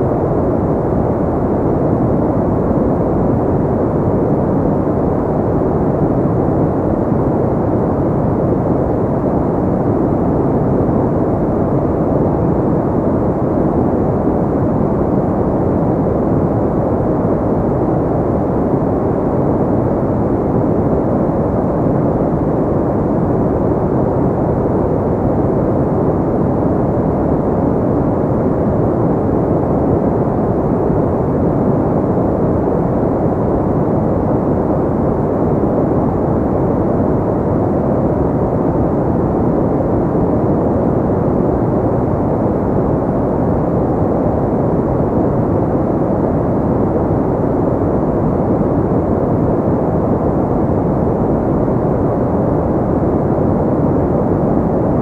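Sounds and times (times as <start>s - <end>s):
deep muffled noise rush: 0.0s - 55.0s.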